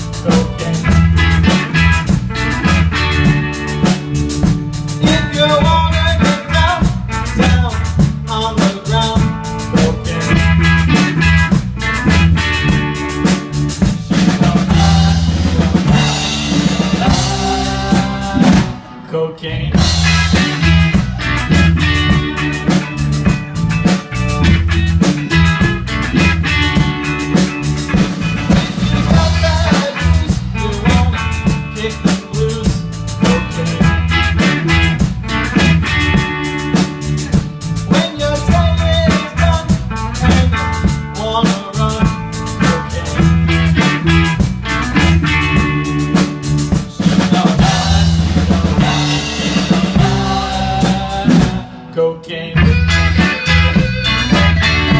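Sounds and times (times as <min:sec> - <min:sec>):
drum kit beat: 0:00.0 - 0:19.0, 0:19.7 - 0:51.9, 0:52.6 - 0:54.9
bass line: 0:00.0 - 0:54.9
rock music: 0:00.0 - 0:54.9.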